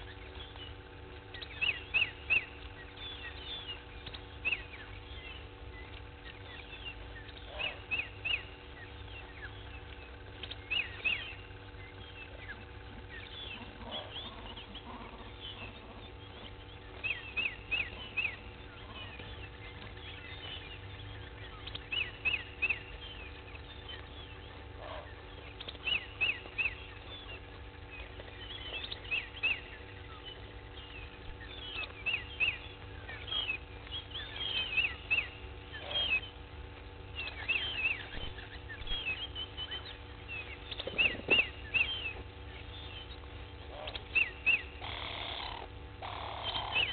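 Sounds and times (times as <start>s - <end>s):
birds chirping: 0.0s - 46.9s
faint steady hum: 0.0s - 46.9s.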